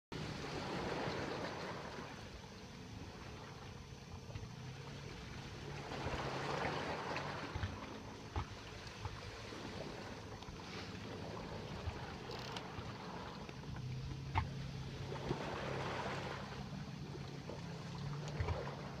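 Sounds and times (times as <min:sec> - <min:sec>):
water lapping against hulls: 0:00.1 - 0:19.0
steady low hum: 0:00.2 - 0:19.0.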